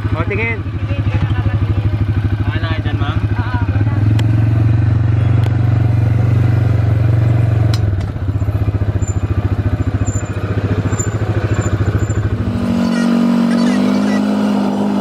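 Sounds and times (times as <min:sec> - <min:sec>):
utility vehicle engine running: 0:00.0 - 0:15.0.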